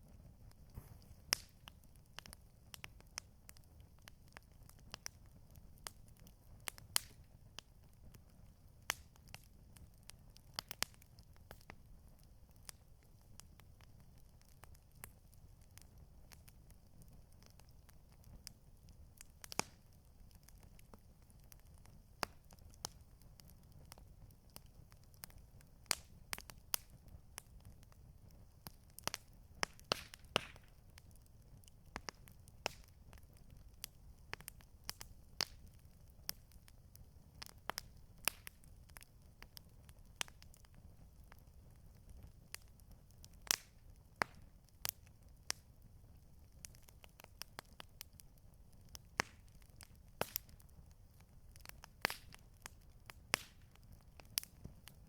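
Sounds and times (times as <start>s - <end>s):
campfire popping and snapping: 0.0s - 55.0s.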